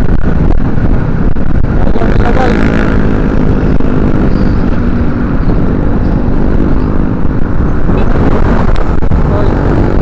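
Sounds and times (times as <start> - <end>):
motorcycle engine running: 0.0 - 10.0
wind rumbling on microphone: 0.0 - 10.0.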